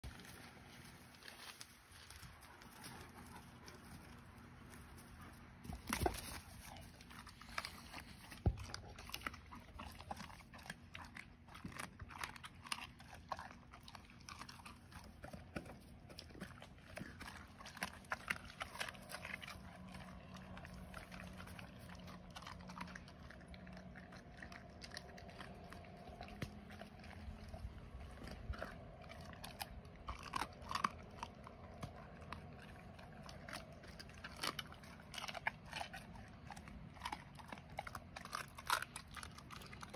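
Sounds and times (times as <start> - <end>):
faint low hum: 0.0 - 39.9
wolf chewing and crunching: 0.0 - 39.9.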